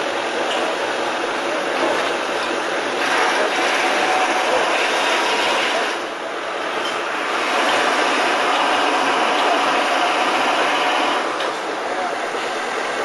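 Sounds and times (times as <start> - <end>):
crane mechanical running noise: 0.0 - 13.0.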